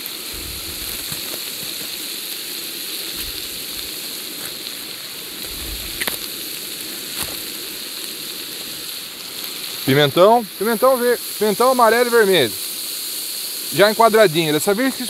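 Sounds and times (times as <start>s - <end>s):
meat and onion sizzling in oil: 0.0s - 15.0s.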